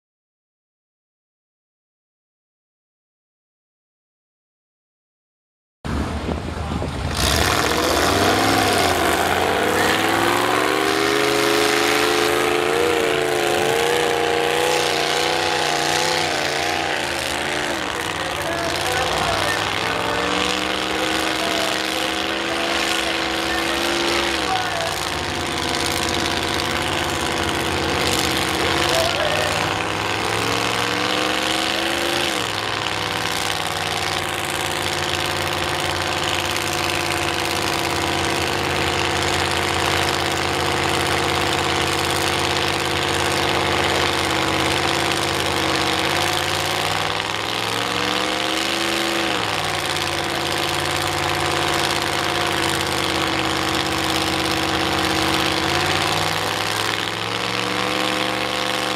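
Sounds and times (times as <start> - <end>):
truck engine idling and revving: 5.9 - 58.9.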